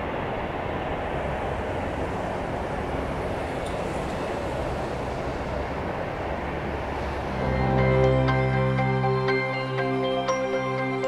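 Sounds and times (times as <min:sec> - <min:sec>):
distant jet airliner roar: 0:00.0 - 0:11.0.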